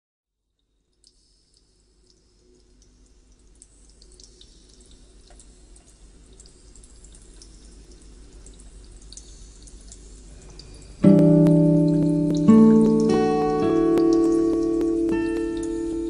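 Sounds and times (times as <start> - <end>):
drops dripping: 0.6 - 16.0
rain falling: 2.6 - 16.0.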